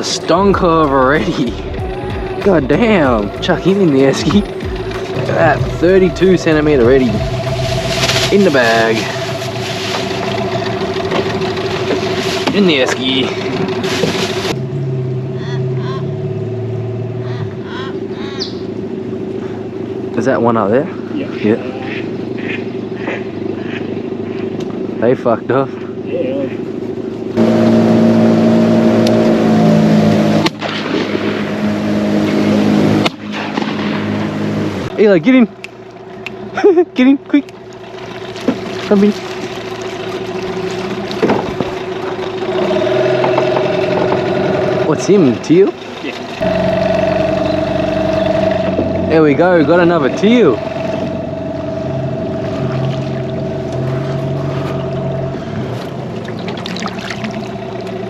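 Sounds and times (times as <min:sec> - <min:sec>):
outboard motor running: 0:00.0 - 0:58.0
water noise: 0:00.0 - 0:58.0.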